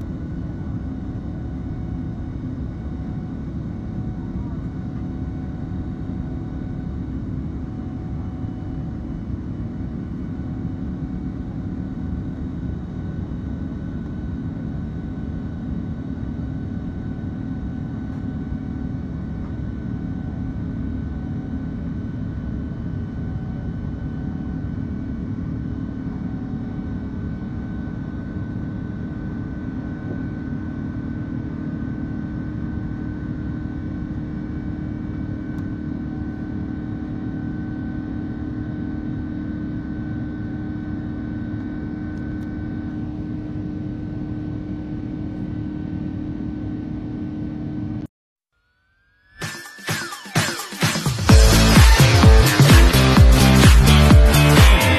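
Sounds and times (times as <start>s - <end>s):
faint high engine whine: 0.0s - 48.1s
jet engines rumbling in cabin: 0.0s - 48.1s.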